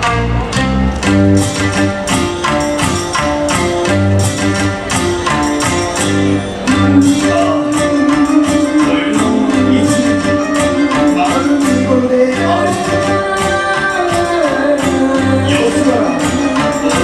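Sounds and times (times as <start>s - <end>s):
dance music with jingling percussion: 0.0s - 17.0s.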